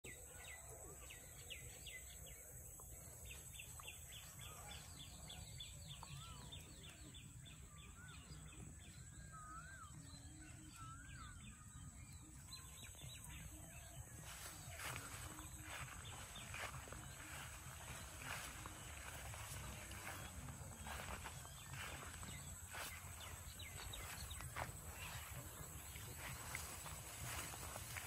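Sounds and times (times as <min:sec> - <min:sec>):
high bird chirps: 0:03.6 - 0:28.0.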